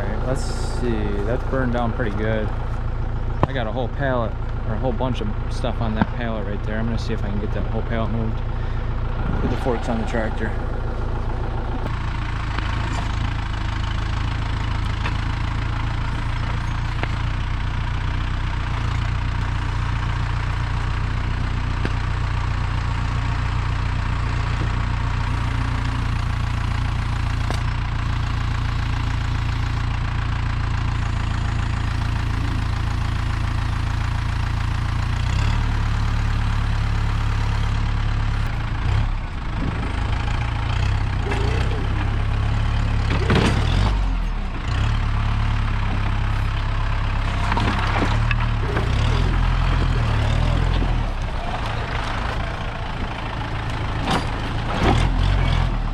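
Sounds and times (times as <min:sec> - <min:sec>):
tractor engine running: 0:00.0 - 0:55.9.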